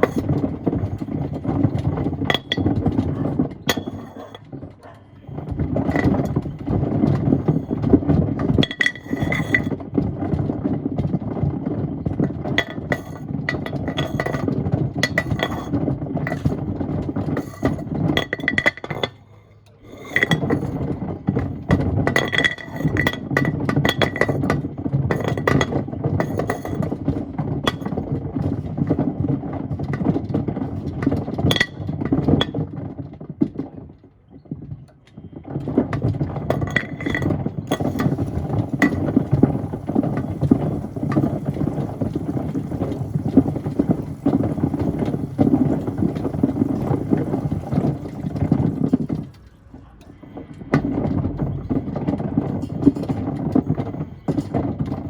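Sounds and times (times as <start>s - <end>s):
stones and wood clattering in drum: 0.0s - 19.2s, 19.9s - 33.7s, 35.4s - 49.5s, 50.3s - 55.0s.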